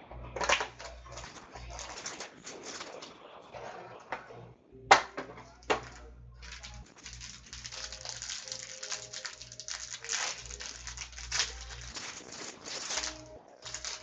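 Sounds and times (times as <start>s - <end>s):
steady low hum: 0.0s - 14.0s
cards and plastic sleeves rustling: 0.2s - 4.2s, 5.3s - 14.0s.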